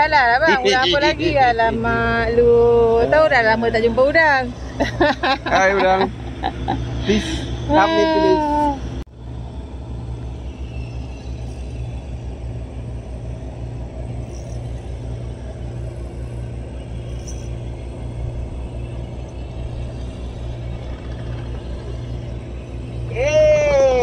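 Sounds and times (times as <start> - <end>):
outboard motor throbbing: 0.0 - 24.0.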